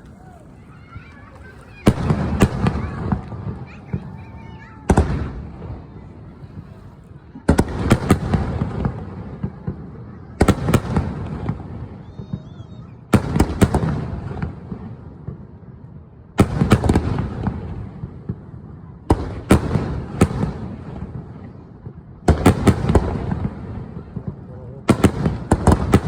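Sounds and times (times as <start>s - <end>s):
fireworks cracking: 0.0s - 26.0s
low fireworks rumble: 0.0s - 26.0s.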